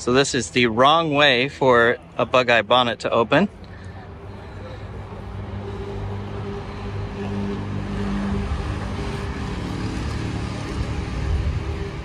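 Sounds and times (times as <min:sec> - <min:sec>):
engine droning hum: 0:00.0 - 0:12.0
outdoor background noise: 0:00.0 - 0:12.0.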